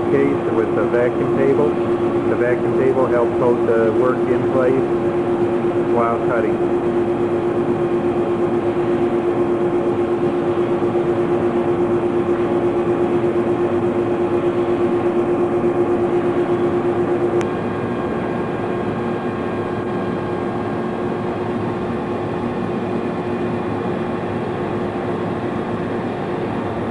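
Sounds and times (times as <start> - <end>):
blower rushing noise: 0.0 - 26.9
laser cutter hum: 0.0 - 26.9.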